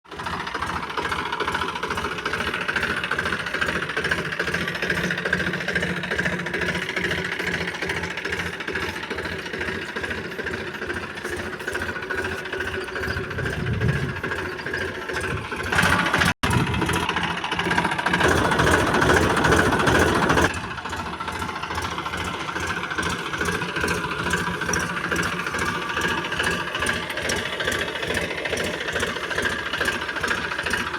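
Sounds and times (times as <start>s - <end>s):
diesel tractor engine knocking: 0.1s - 30.9s.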